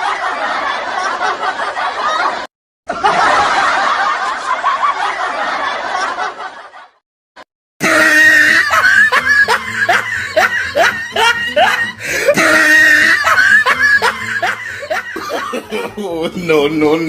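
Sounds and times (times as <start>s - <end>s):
laughter sound effect: 0.0s - 7.0s, 7.8s - 16.4s.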